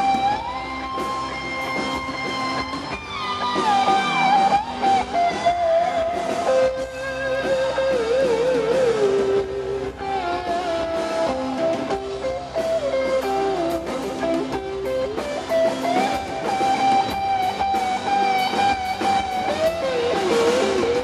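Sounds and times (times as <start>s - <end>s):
band playing: 0.0s - 21.0s
electric guitar solo: 0.0s - 21.0s.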